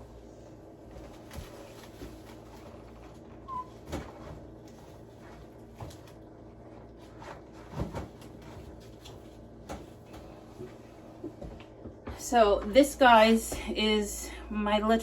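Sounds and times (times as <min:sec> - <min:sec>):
groceries knocking and clunking: 0:00.7 - 0:12.8.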